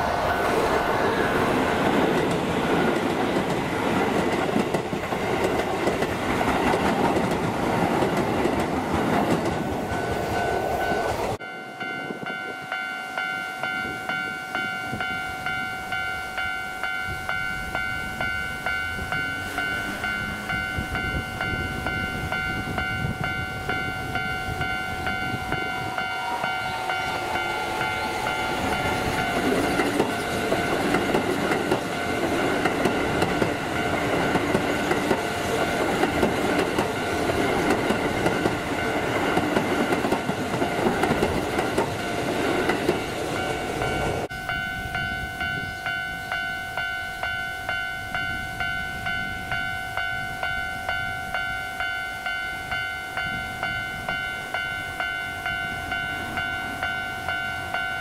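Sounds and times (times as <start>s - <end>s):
level-crossing warning bell: 0.0s - 58.0s.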